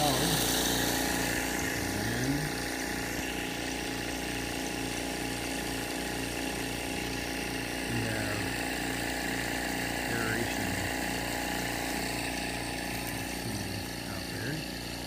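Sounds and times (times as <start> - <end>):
air compressor humming and pulsing: 0.0 - 15.0.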